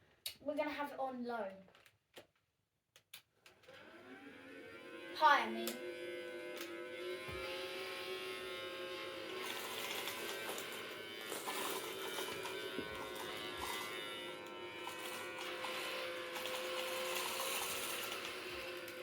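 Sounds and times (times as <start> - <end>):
handheld vacuum cleaner motor whine: 3.6 - 19.0.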